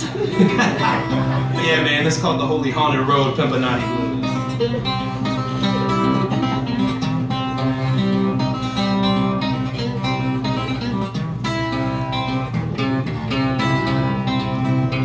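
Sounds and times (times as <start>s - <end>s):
solo acoustic guitar: 0.0s - 15.0s.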